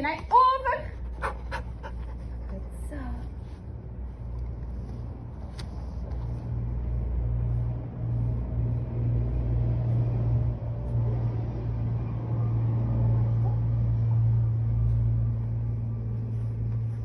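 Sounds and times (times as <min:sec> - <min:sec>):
low motor-like rumble: 0:00.9 - 0:17.0.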